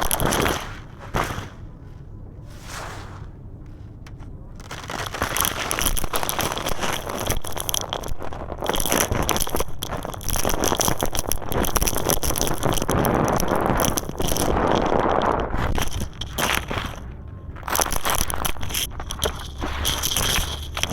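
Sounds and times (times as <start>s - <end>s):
concrete crumbling and crunching: 0.0s - 1.8s, 4.0s - 20.9s.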